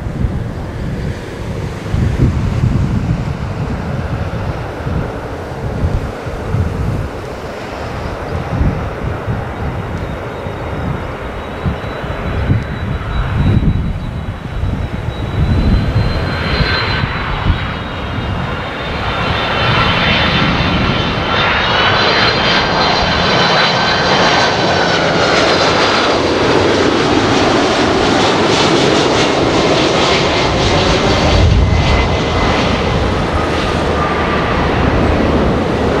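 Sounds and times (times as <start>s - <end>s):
deep rumble of passing plane: 0.0s - 36.0s
high jet engine whine: 0.0s - 36.0s
jet airliner roar: 0.0s - 36.0s.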